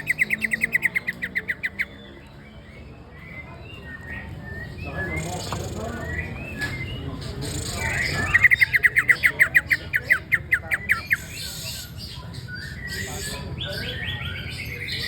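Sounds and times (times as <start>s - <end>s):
bird chirps and twitters: 0.0s - 15.0s.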